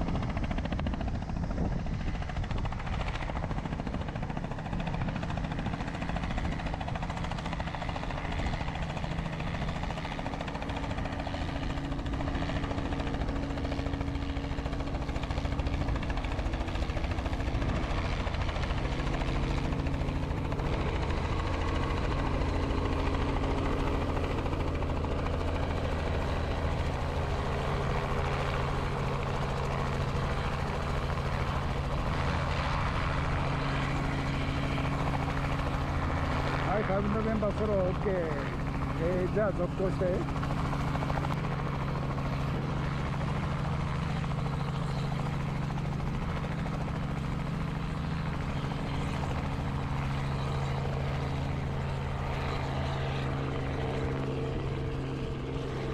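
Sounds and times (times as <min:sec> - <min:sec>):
helicopter rotor and engine: 0:00.0 - 0:55.9.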